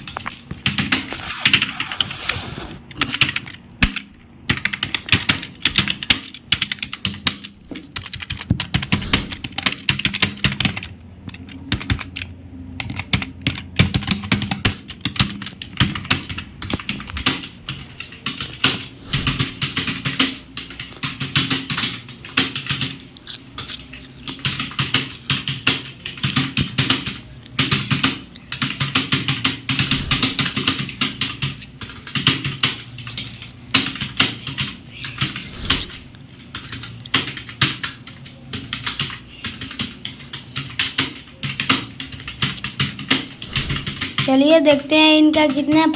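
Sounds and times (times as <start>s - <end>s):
fast typing on computer keyboard: 0.0s - 45.9s.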